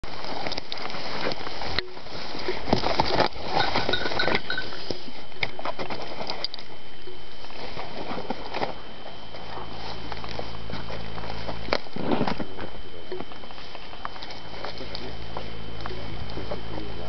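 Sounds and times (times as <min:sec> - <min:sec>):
footsteps through undergrowth: 0:00.0 - 0:16.9.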